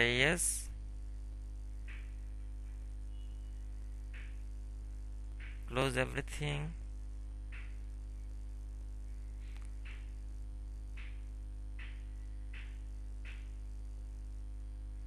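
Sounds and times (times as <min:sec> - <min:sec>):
electrical mains hum and buzz: 0:00.0 - 0:15.0.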